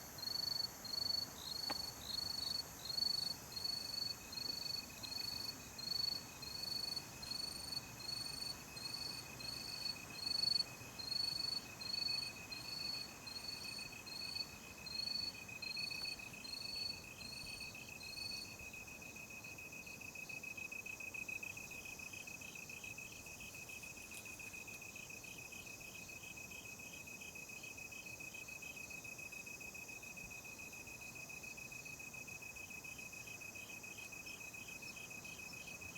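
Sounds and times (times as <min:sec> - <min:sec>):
cricket chirping: 0:00.0 - 0:35.9
insect continuous trill: 0:00.0 - 0:35.9.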